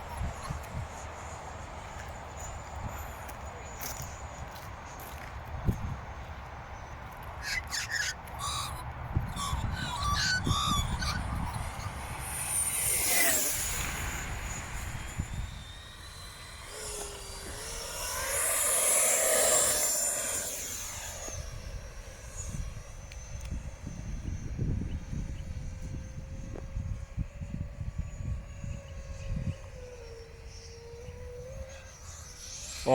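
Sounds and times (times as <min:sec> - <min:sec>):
wind rumbling on microphone: 0:00.0 - 0:31.8
model jet fan whine: 0:00.0 - 0:32.9.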